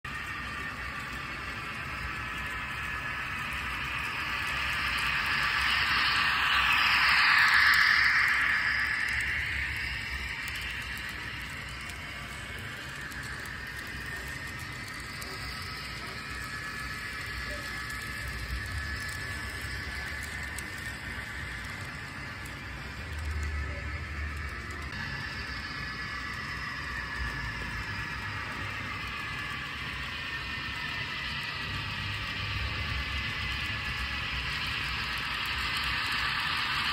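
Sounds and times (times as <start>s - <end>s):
low hum: 0.1s - 36.9s
model train wheels rolling on rails: 0.1s - 36.9s.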